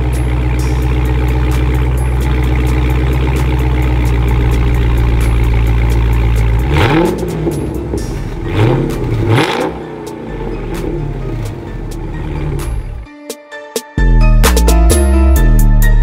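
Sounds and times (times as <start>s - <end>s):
car engine idling: 0.0s - 13.1s.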